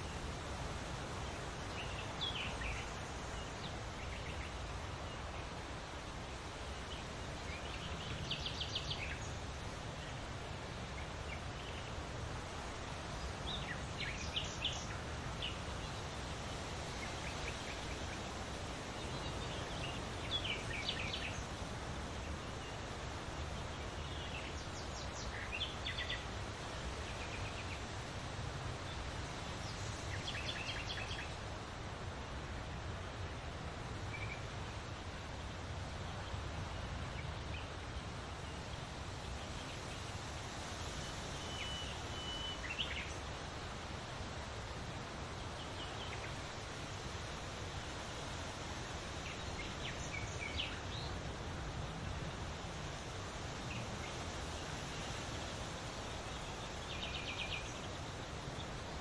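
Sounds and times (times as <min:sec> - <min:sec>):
leaves rustling in wind: 0:00.0 - 0:59.0
songbirds chirping: 0:00.0 - 0:59.0.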